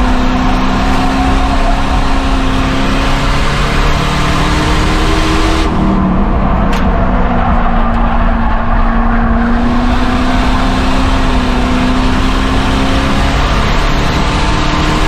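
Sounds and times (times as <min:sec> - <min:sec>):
race car engine at high revs: 0:00.0 - 0:15.0
road noise rushing: 0:00.0 - 0:15.0.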